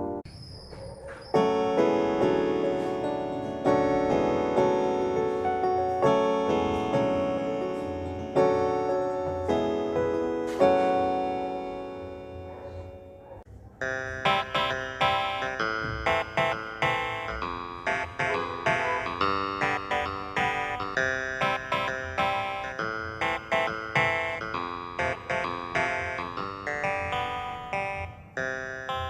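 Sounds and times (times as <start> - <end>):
keyboard piano chords: 0.0 - 0.3, 1.3 - 29.0.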